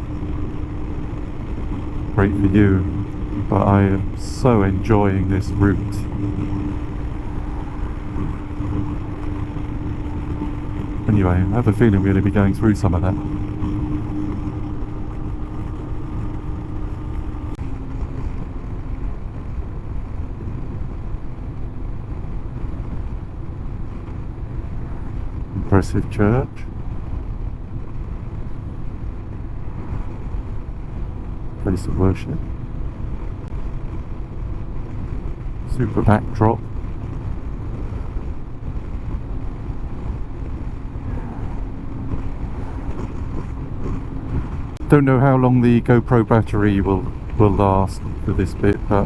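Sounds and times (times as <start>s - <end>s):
motorcycle engine running: 0.0s - 49.0s
wind rush on microphone: 0.0s - 49.0s.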